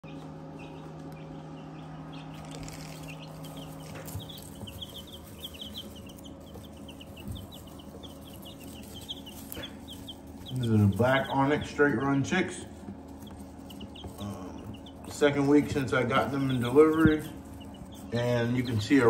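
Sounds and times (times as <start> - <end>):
chicks peeping: 0.0 - 19.0
low steady hum: 0.0 - 19.0.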